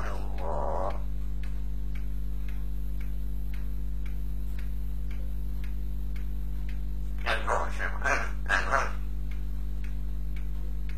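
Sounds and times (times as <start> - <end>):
regular ticking: 0.0 - 10.9
steady low hum: 0.0 - 10.9.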